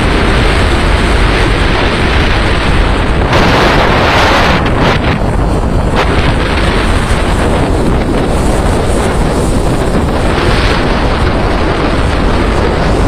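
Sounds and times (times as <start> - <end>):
waves: 0.0 - 13.0
wind buffeting microphone: 0.0 - 13.0.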